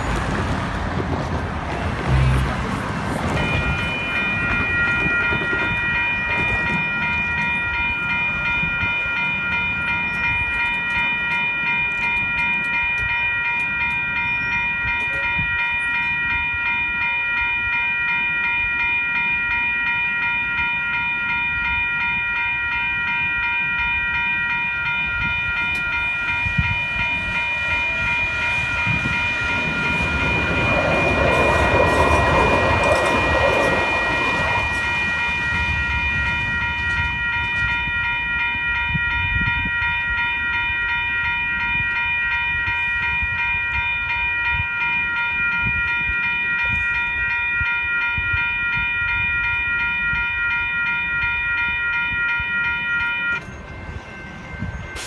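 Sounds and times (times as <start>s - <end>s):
railroad crossing bells ringing: 0.0s - 55.0s
train wheels rumbling on rails: 0.0s - 55.0s.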